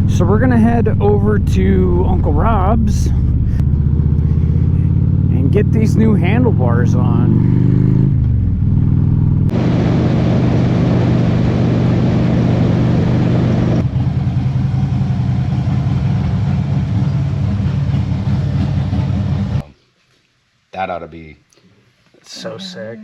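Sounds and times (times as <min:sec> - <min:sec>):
motorcycle engine running: 0:00.0 - 0:19.6
road noise: 0:00.0 - 0:19.7.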